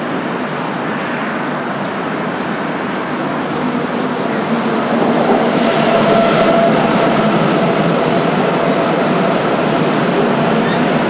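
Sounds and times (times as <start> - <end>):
tram rolling on rails: 0.0 - 11.0
tram whine: 1.6 - 11.0.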